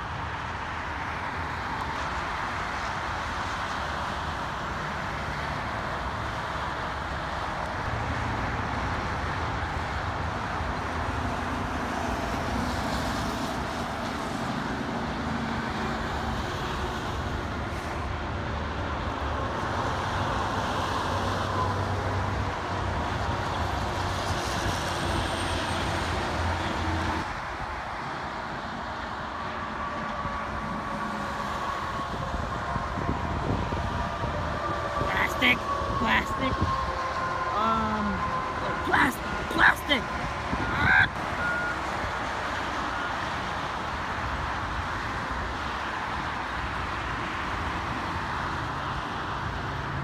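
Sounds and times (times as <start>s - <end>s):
diesel trucks passing: 0.0s - 50.0s
highway traffic noise: 0.0s - 50.0s.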